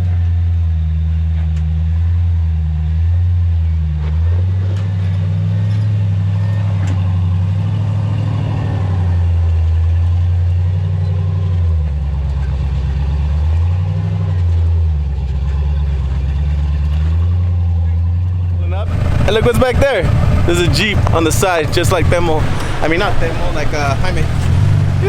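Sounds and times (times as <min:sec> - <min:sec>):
off-road vehicle engine droning: 0:00.0 - 0:25.0.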